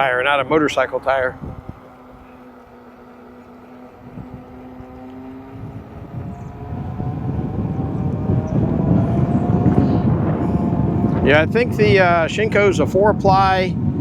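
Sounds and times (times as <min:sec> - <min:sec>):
electric motor whining: 0:00.0 - 0:13.0
tyre and wind noise: 0:00.0 - 0:14.0.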